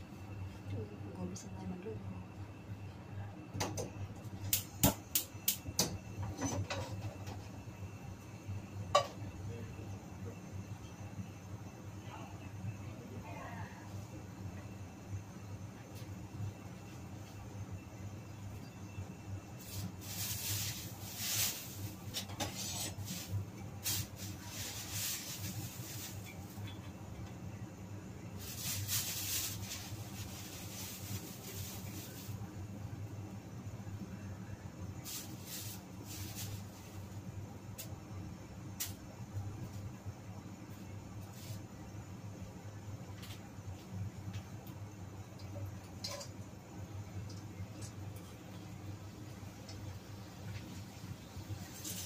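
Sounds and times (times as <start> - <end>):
gas burner hum: 0.0 - 52.0.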